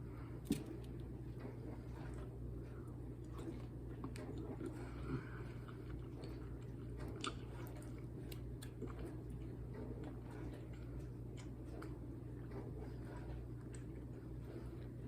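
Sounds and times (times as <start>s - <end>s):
steady low hum: 0.0s - 15.0s
person chewing: 0.4s - 15.0s.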